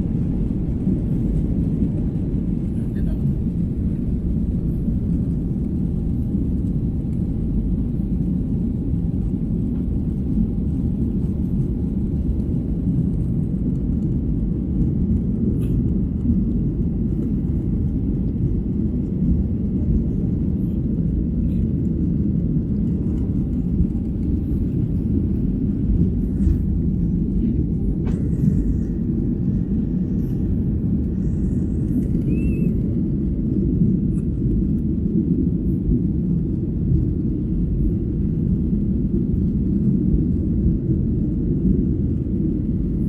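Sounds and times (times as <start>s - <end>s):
jet engine cabin rumble: 0.0s - 43.0s.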